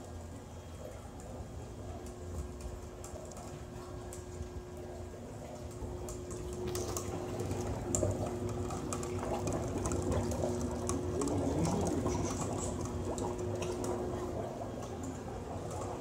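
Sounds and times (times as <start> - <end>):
steady machine hum: 0.0 - 16.0
water churning and bubbling: 0.0 - 16.0.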